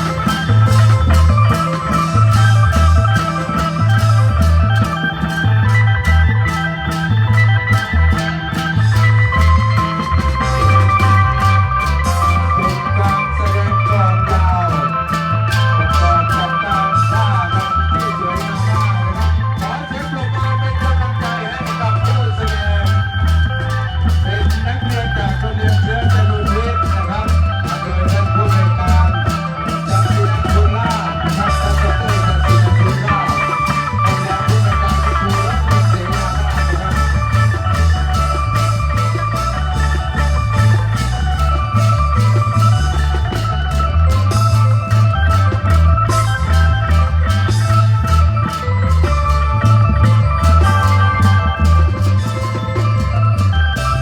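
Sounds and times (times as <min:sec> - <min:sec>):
heavy drum beat: 0:00.0 - 0:54.0
melody line: 0:00.0 - 0:54.0.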